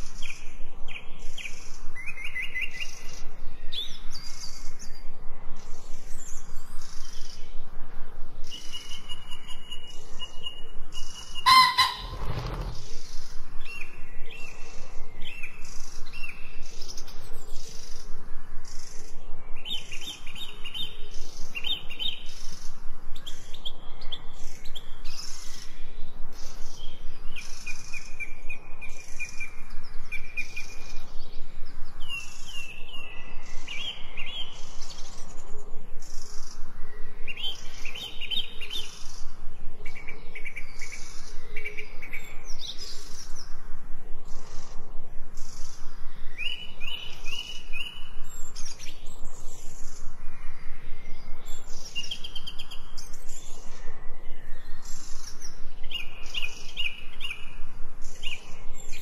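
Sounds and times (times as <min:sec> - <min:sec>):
songbirds singing: 0:00.0 - 0:59.0
steady background hiss: 0:00.0 - 0:59.0.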